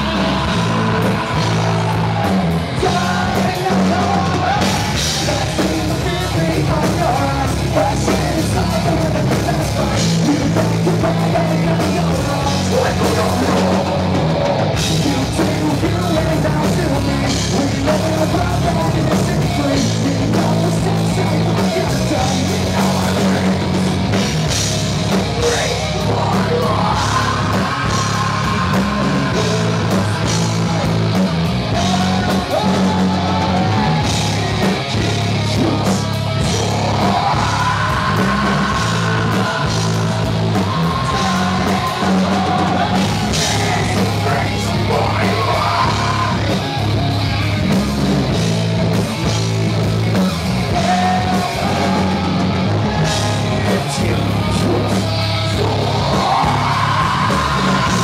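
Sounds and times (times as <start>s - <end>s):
person singing into a microphone: 0.0s - 23.8s, 25.1s - 31.1s, 31.7s - 46.8s, 50.6s - 58.0s
drum kit: 0.0s - 58.0s
electric guitar: 0.0s - 58.0s.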